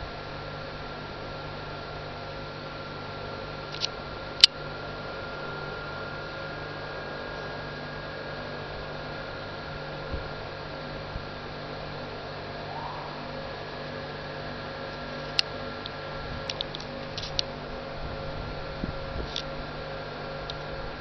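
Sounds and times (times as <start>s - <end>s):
faint high whine: 0.0s - 21.0s
steady hum and hiss: 0.0s - 21.0s.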